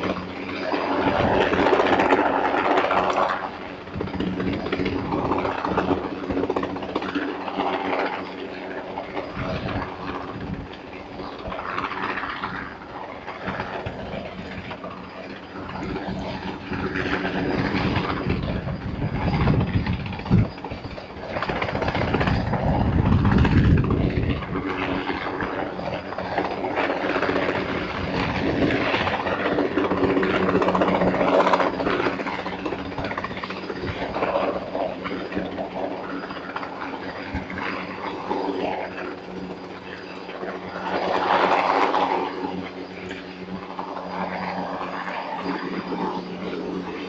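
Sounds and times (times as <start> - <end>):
helicopter engine and rotor drone: 0.0 - 47.0.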